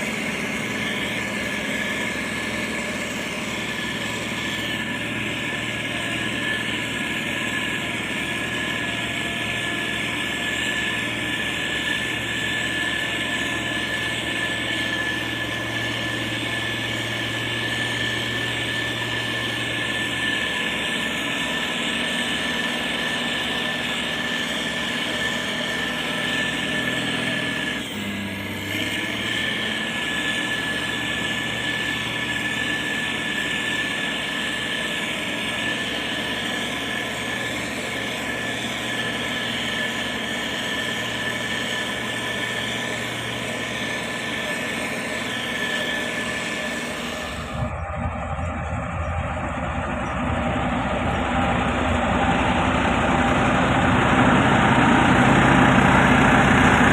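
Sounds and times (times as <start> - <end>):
heavy machine diesel engines running: 0.0 - 56.9
thin high whine: 0.0 - 56.9.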